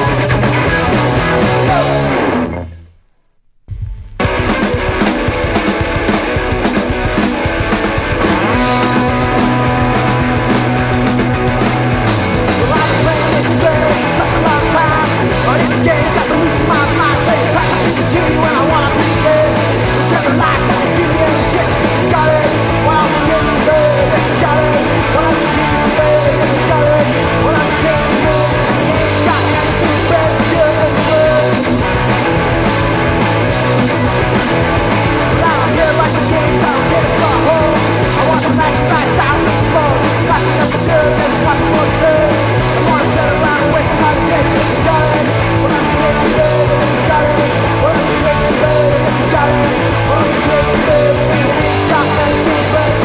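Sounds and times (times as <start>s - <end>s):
punk rock band with singing: 0.0s - 2.8s, 4.2s - 53.0s.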